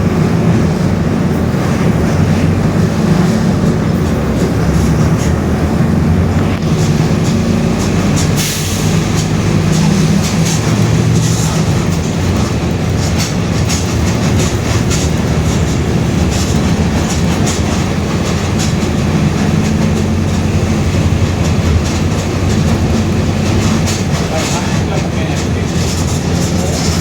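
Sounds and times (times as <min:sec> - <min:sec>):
bus body rattling: 0:00.0 - 0:27.0
bus diesel engine running: 0:00.0 - 0:27.0.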